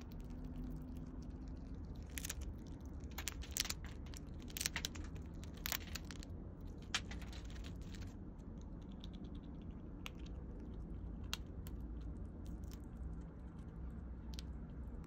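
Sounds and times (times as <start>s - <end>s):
squirrel gnawing a pine cone: 0.0s - 15.0s.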